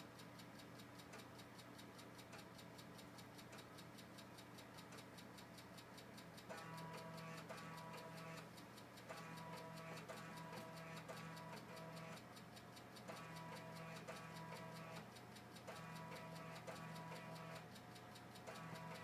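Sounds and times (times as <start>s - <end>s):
computer mechanical ticking: 0.0s - 19.0s.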